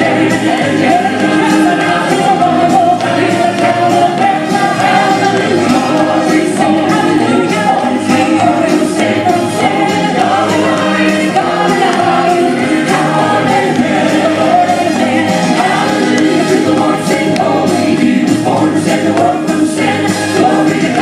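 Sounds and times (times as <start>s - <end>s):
vocal group singing in harmony: 0.0s - 21.0s.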